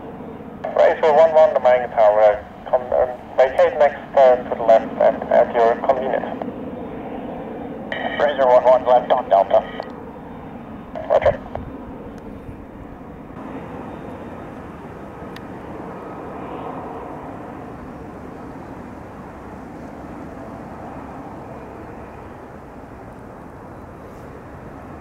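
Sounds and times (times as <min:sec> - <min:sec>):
jet engine rumble and whine: 0:00.0 - 0:25.0.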